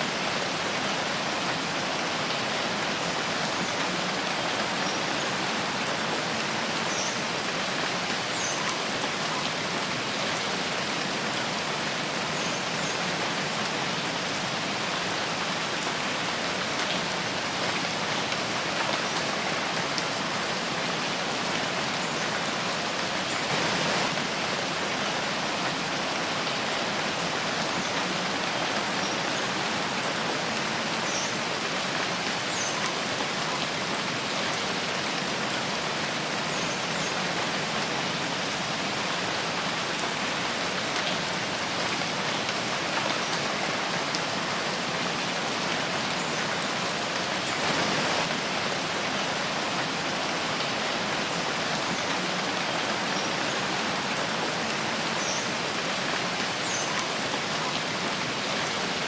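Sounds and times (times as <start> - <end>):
rain pattering in forest: 0.0 - 59.0.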